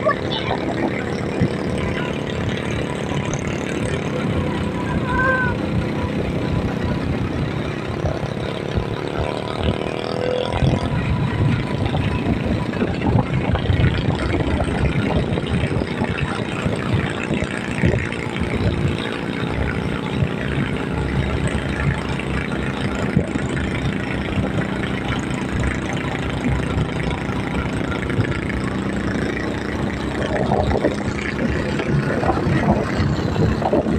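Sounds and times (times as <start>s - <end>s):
road noise: 0.0s - 33.9s
vehicle engine running: 0.0s - 33.9s.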